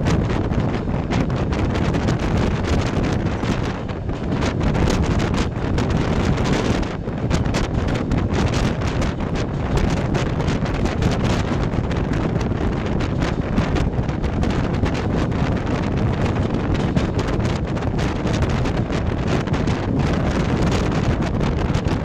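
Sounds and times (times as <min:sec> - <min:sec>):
train rumble: 0:00.0 - 0:22.0
wind buffeting microphone: 0:00.0 - 0:22.0.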